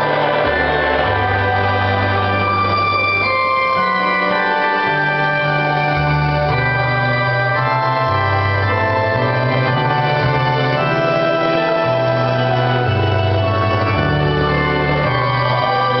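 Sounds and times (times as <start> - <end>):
electronic organ hymn chords: 0.0 - 16.0.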